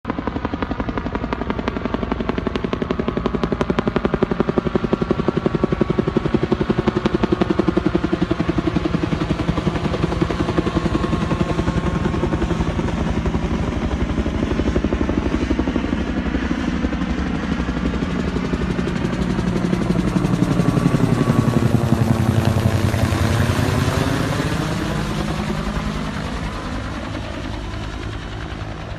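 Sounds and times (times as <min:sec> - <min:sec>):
helicopter rotor beating: 0:00.1 - 0:28.9.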